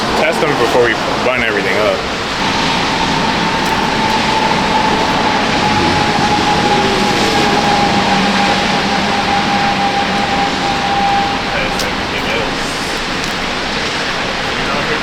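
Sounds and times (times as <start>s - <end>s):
steady rushing noise: 0.0s - 15.0s
thin high whine: 0.3s - 14.9s
low hum: 2.1s - 14.4s.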